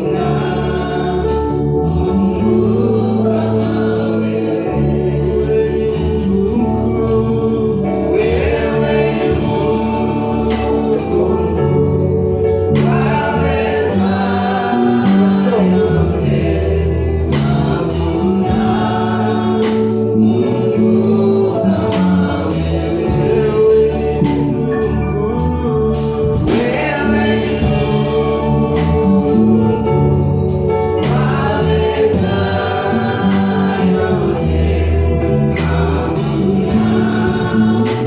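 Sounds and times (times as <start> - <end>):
band accompaniment: 0.0 - 38.0
choir singing gospel: 0.0 - 38.0.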